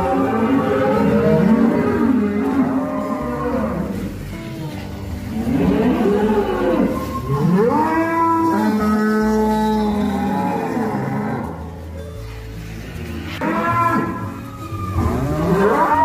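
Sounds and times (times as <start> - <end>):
cattle mooing: 0.0 - 11.8, 13.1 - 14.3, 14.9 - 16.0.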